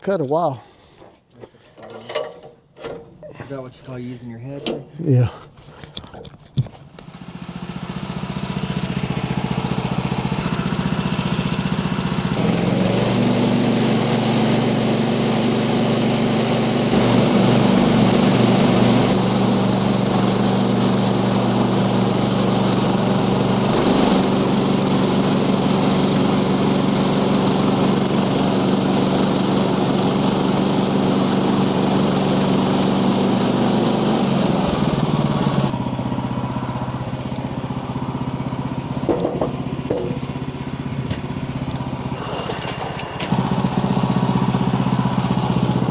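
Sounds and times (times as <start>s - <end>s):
sawmill engine cutting log: 6.8s - 45.9s.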